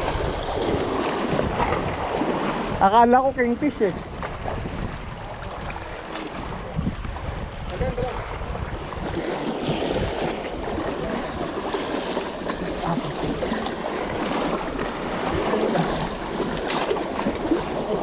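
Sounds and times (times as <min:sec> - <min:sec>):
surf splashing on rocks: 0:00.0 - 0:18.0.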